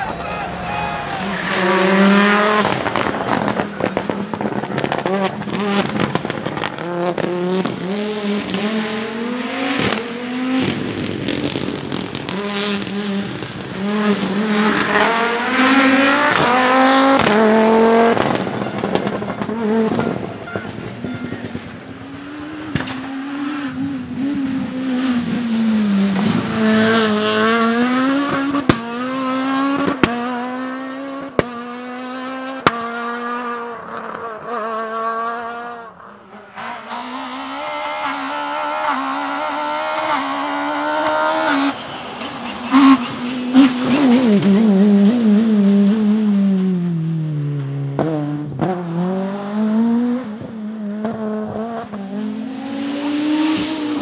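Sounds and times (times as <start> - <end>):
rally car engines at full throttle: 0.0 - 54.0.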